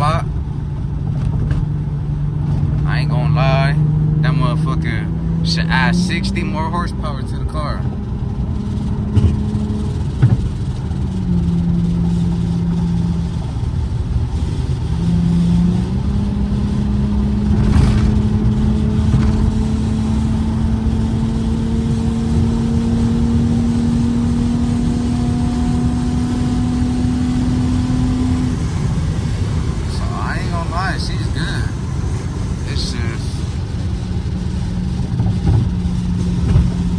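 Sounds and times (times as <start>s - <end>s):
car engine accelerating: 0.0s - 36.9s
road rumble: 0.0s - 36.9s.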